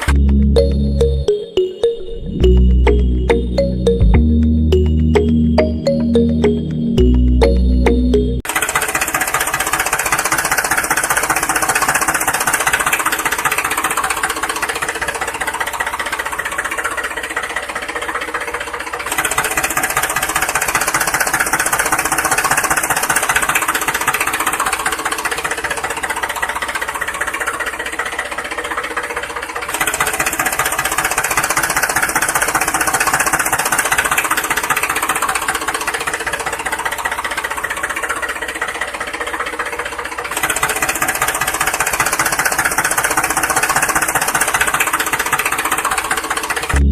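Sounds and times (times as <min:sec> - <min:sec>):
small motor knocking: 0:08.5 - 0:46.8.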